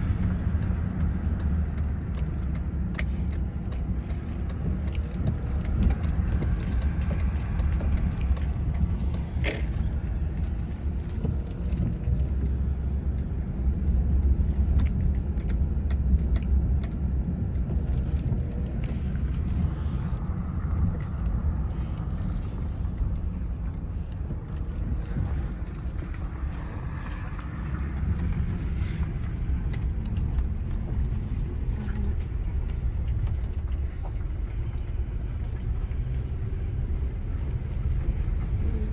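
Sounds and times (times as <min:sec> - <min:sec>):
car engine and tyres rumbling: 0:00.0 - 0:38.9
light clicks and rattles: 0:00.0 - 0:38.9.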